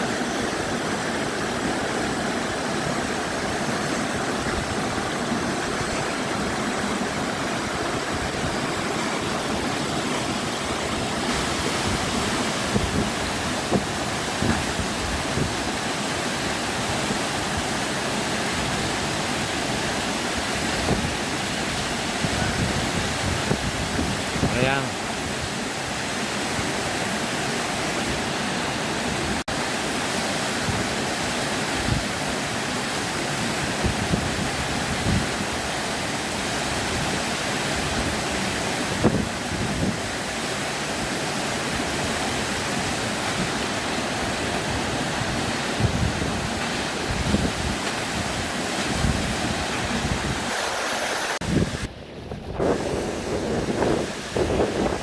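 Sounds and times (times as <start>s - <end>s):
waterfall rushing: 0.0s - 55.0s
wind on microphone: 0.0s - 55.0s.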